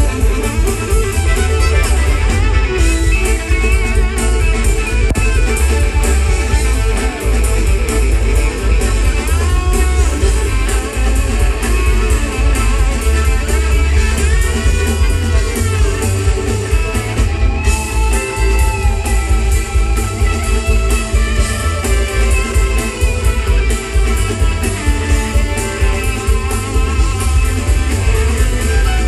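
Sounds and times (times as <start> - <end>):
electric guitar bending notes: 0.0 - 29.0
live band playing: 0.0 - 29.0.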